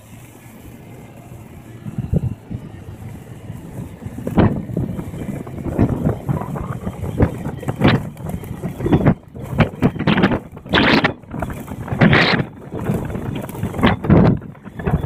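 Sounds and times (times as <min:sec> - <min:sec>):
scooter engine running: 0:00.0 - 0:15.0
wind buffeting microphone: 0:00.0 - 0:15.0.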